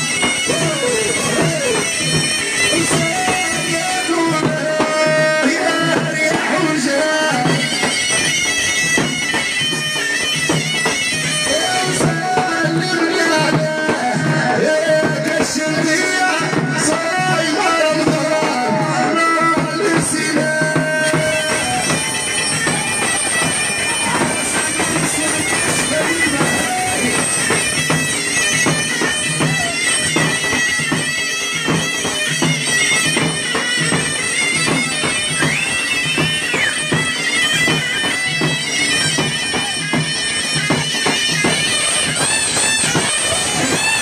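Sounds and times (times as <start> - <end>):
reed shawm melody: 0.0 - 44.0
steady drum beat: 0.0 - 44.0.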